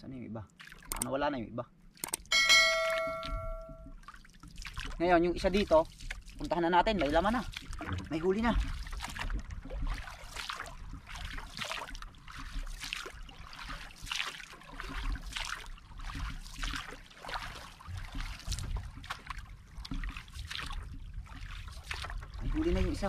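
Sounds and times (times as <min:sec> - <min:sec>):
paddle splashing through water: 0:00.6 - 0:01.1, 0:02.0 - 0:23.0.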